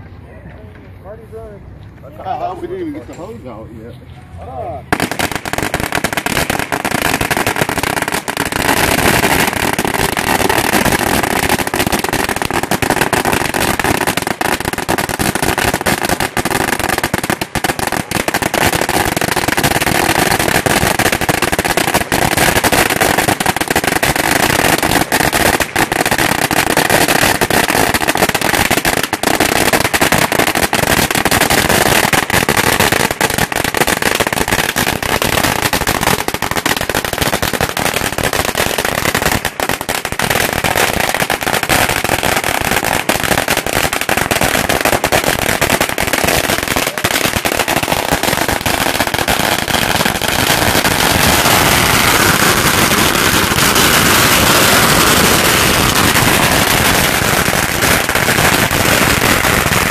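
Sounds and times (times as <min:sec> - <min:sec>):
firecracker string crackling: 0:02.3 - 0:59.9.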